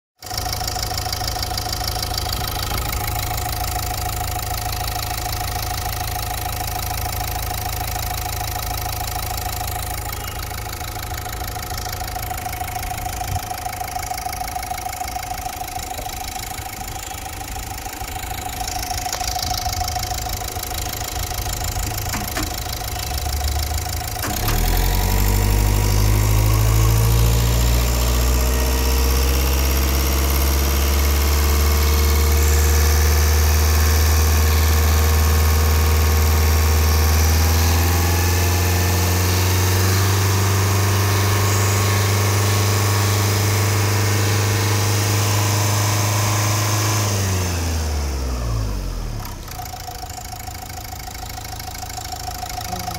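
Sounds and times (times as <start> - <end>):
car engine idling: 0.2 - 52.9.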